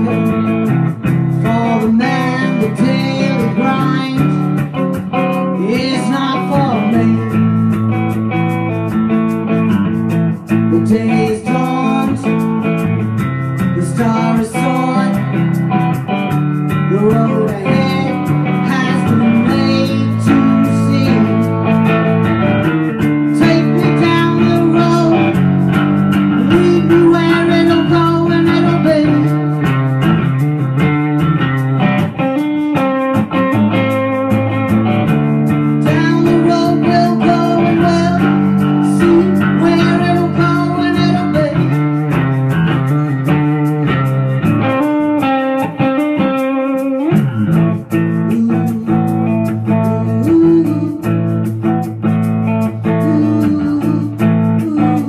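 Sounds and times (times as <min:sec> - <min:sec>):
live blues music: 0:00.0 - 0:55.0
person singing: 0:00.0 - 0:55.0.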